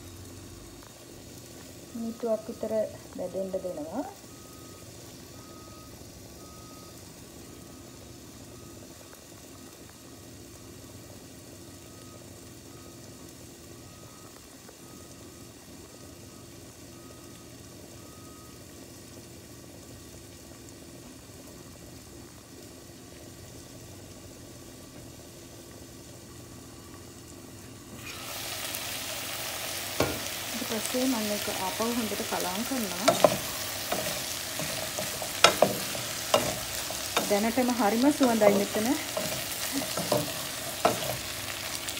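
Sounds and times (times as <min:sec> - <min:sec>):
faint hum: 0:00.0 - 0:41.9
vegetables sizzling in a pan: 0:00.0 - 0:41.9.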